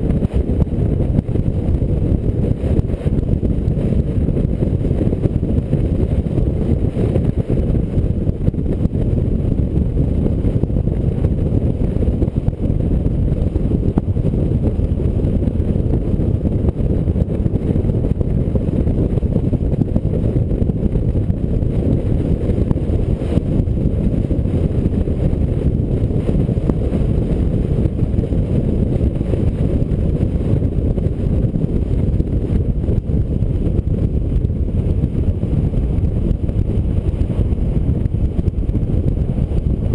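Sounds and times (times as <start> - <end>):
car road noise: 0.0 - 39.9
wind rumble: 0.0 - 39.9.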